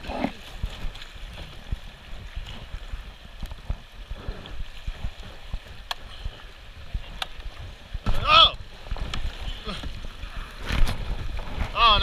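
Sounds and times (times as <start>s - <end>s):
river water rushing and splashing: 0.0s - 12.0s.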